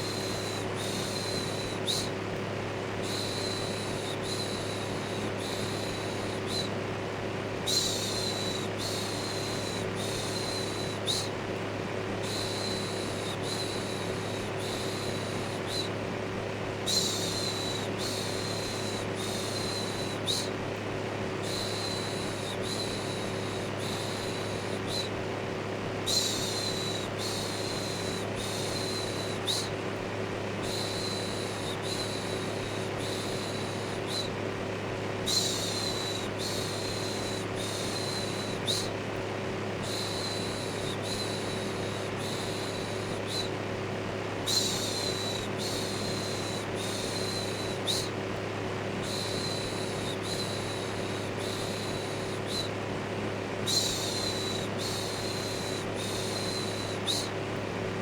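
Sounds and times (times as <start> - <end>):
electric fan humming: 0.0 - 58.0.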